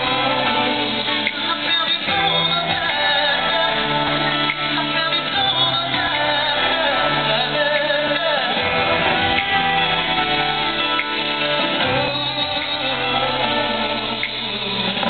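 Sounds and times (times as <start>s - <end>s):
live pop band playing: 0.0s - 15.0s
person singing: 0.0s - 15.0s.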